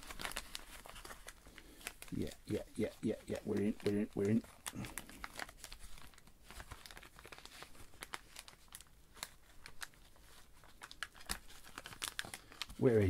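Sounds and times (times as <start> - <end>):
wax paper wrapper crinkling: 0.0 - 13.0.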